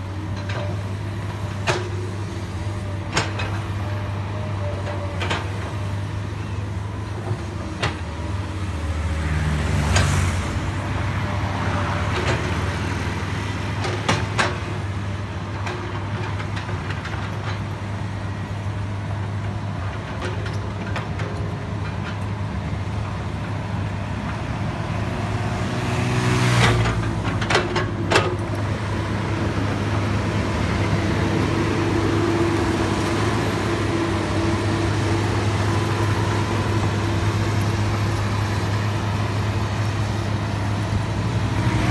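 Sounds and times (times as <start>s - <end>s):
heavy diesel machinery drone: 0.0s - 41.9s.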